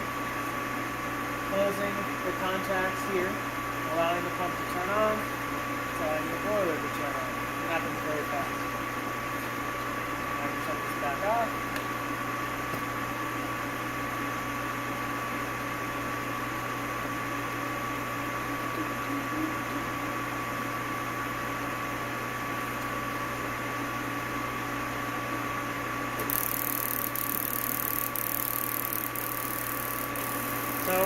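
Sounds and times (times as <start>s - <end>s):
electrical hum with high whine: 0.0s - 31.0s.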